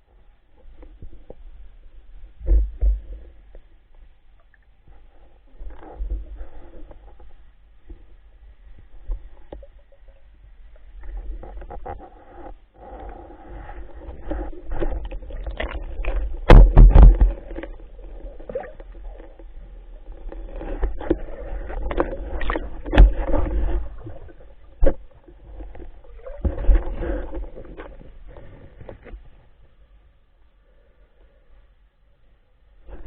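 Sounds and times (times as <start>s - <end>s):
gurgling water underwater: 0.5s - 29.5s.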